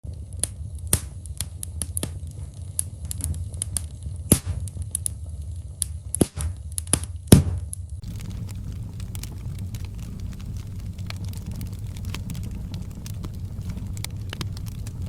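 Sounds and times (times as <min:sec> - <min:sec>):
low rumble: 0:00.0 - 0:06.8, 0:07.4 - 0:15.0
log fire crackling: 0:00.0 - 0:15.0.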